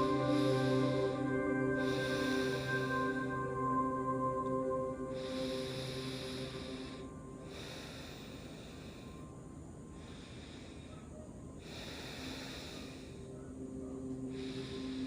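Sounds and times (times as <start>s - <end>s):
person breathing softly in sleep: 0.0s - 3.9s, 4.9s - 13.6s, 14.2s - 15.0s
faint steady drone: 0.0s - 15.0s.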